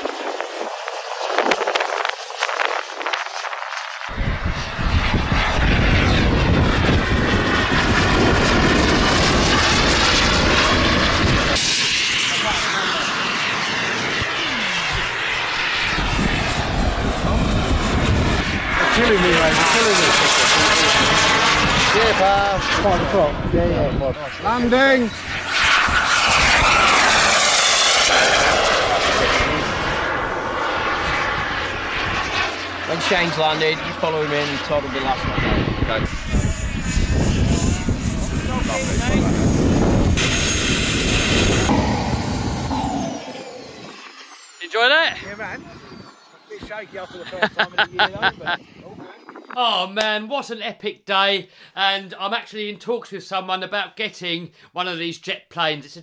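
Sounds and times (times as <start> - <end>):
jet turbine rush and whine: 0.0 - 50.5.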